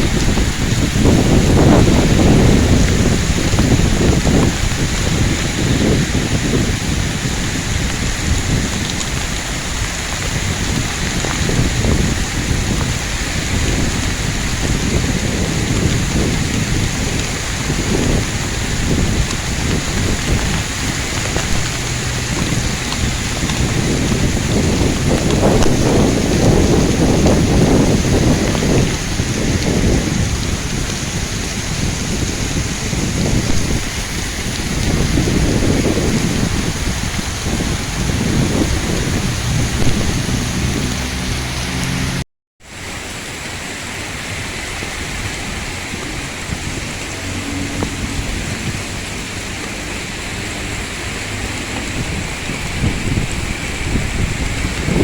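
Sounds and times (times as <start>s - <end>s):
heavy rain falling: 0.0s - 55.0s
strong gusting wind rumble: 0.0s - 55.0s.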